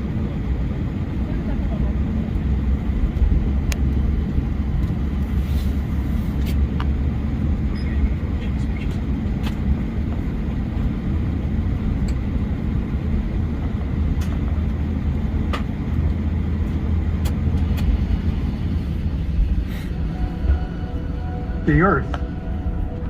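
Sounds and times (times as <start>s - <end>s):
aircraft cabin rumble and hum: 0.0s - 23.0s.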